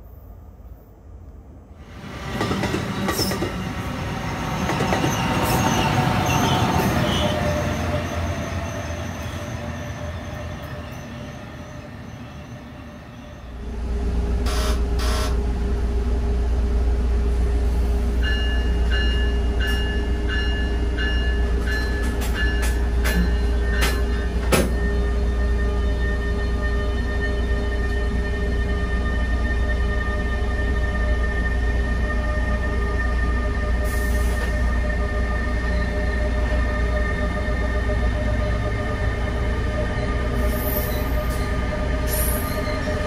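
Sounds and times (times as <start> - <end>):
heavy train rumble: 0.0 - 43.0
train passing on rails: 0.0 - 43.0.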